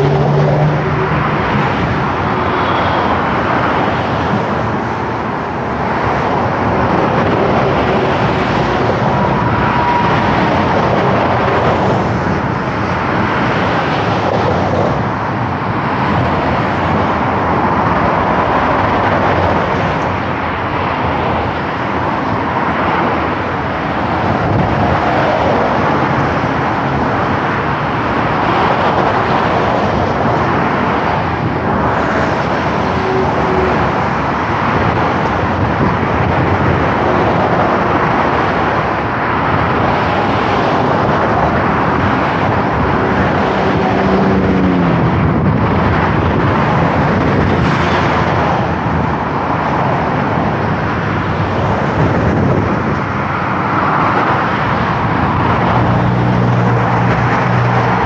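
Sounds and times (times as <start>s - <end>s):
vehicles passing at speed: 0.0s - 58.0s.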